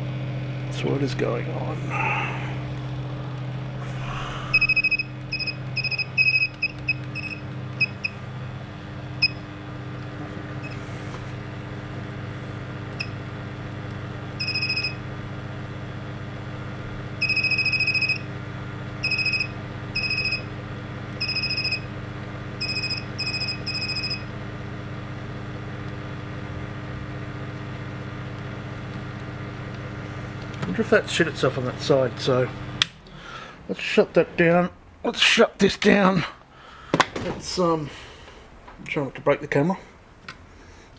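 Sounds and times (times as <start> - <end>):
low electrical hum: 0.0 - 40.9.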